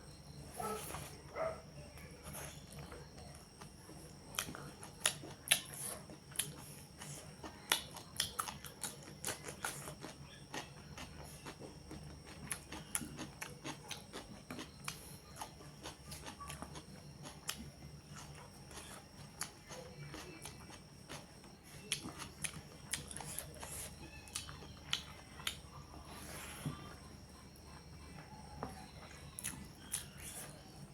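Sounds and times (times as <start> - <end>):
steady low hum: 0.0 - 30.9
chewing and biting food: 1.9 - 30.8.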